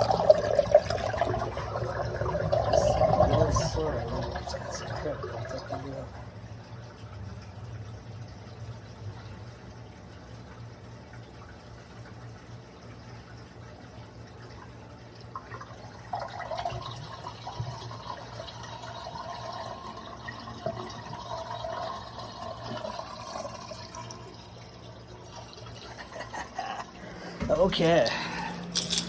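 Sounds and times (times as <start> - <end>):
water gurgling down a drain: 0.0 - 28.0
steady low hum: 0.0 - 29.0.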